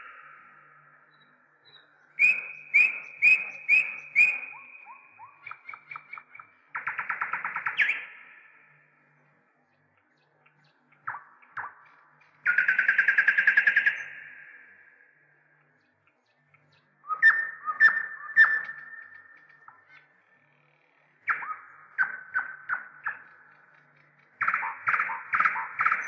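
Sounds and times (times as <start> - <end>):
bird trill: 0.0 - 8.8, 9.8 - 14.9, 16.4 - 26.0
bird singing: 0.0 - 26.0.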